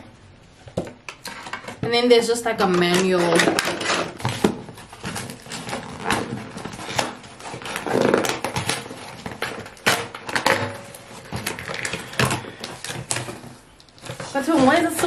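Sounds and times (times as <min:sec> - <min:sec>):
packaging rustling: 0:02.6 - 0:15.0.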